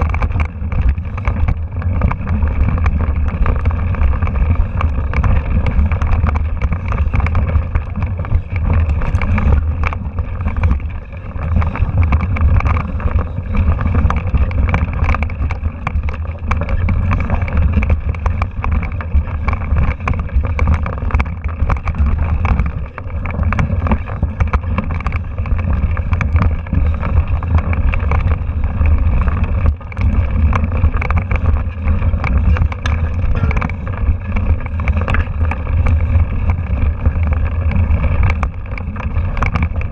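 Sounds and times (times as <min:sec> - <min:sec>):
bike rattling over stones: 0:00.0 - 0:39.9.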